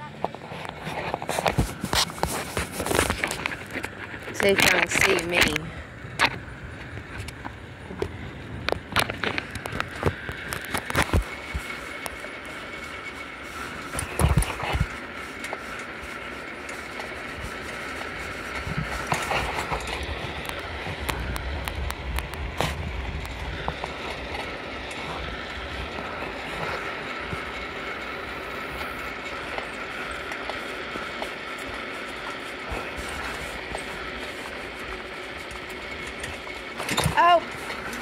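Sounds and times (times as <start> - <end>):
bicycle tyres rolling on asphalt: 0.0 - 38.0.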